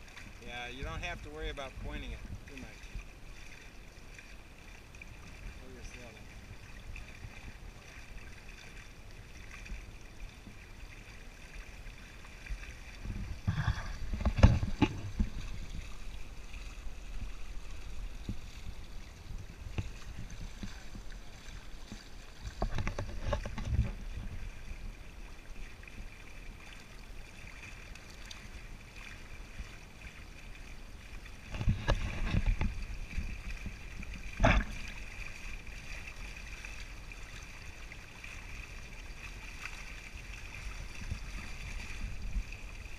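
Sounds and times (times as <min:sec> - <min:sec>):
water rushing along hull: 0:00.0 - 0:42.9
waves slapping hull: 0:00.0 - 0:42.9.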